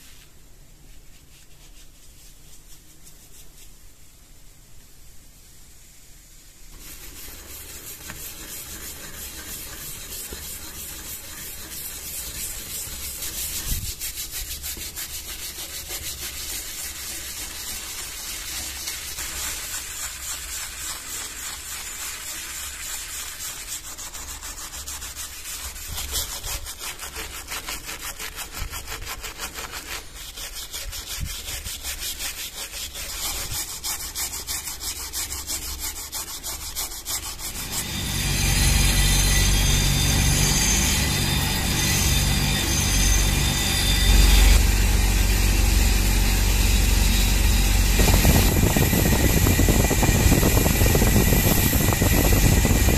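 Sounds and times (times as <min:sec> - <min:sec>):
wire brush scrubbing steel: 0:06.7 - 0:52.9.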